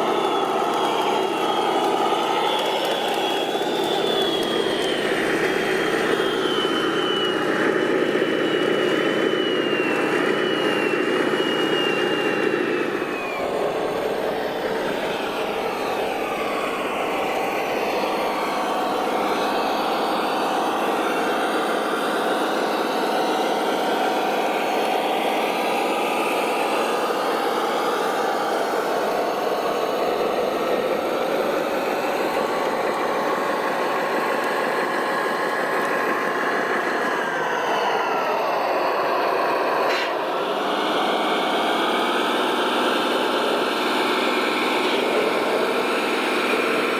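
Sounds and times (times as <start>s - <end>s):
faint high whine: 0.0s - 40.4s
model truck motor running: 0.0s - 46.9s.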